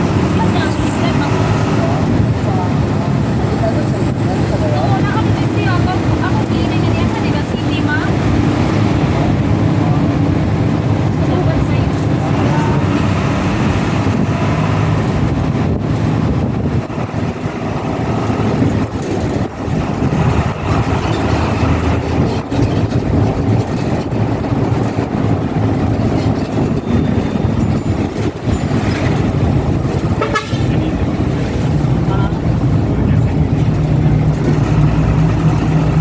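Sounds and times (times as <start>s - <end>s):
bus engine and road noise: 0.0s - 36.0s.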